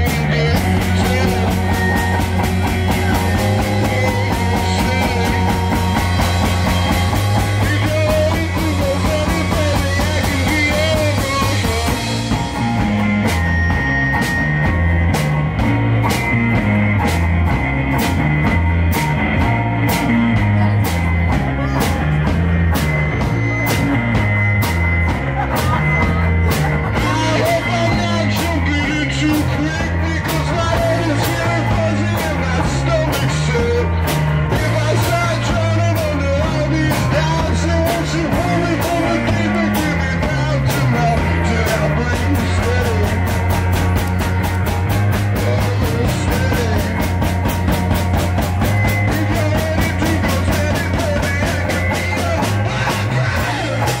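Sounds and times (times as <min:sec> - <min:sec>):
drum kit with cymbals: 0:00.0 - 0:54.0
electric guitar: 0:00.0 - 0:54.0
low bass line: 0:00.0 - 0:54.0.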